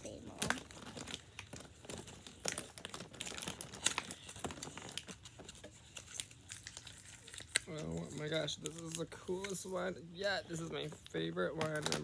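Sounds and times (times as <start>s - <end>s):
small packaging clicks and crinkles: 0.0s - 12.0s.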